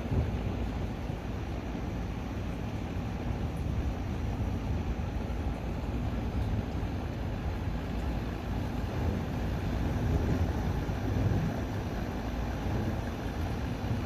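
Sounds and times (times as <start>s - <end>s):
low thunder rumble: 0.0s - 14.0s.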